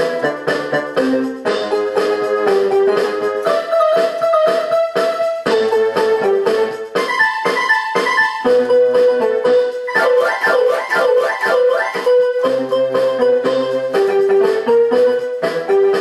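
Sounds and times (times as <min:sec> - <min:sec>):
keyboard melody over chords: 0:00.0 - 0:16.0.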